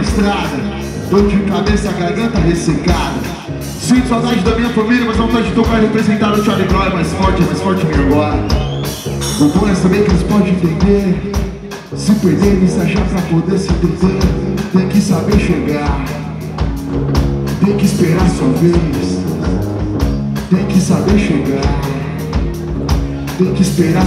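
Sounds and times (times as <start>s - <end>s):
man singing: 0.0s - 16.3s, 17.6s - 19.8s, 20.4s - 22.3s, 23.3s - 24.0s
rock band playing: 0.0s - 24.0s.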